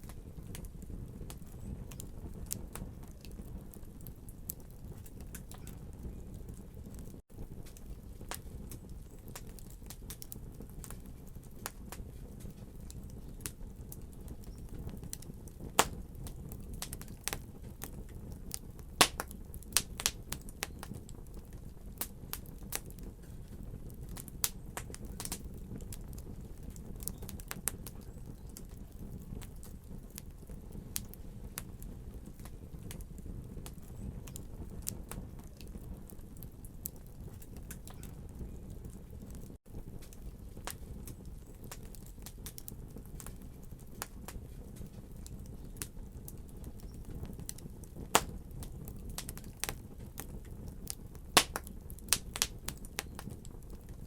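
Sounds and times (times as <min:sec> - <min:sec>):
fire crackling and popping: 0:00.0 - 0:54.0
fire flames rumbling: 0:00.0 - 0:54.0.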